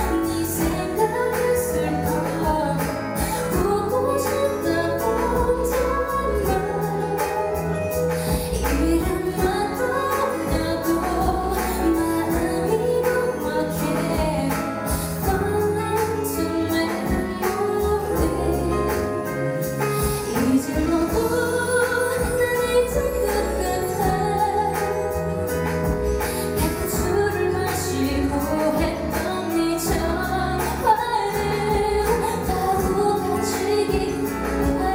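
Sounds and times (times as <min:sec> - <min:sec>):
instrumental accompaniment with beat: 0:00.0 - 0:34.9
woman singing pop song: 0:00.0 - 0:34.9.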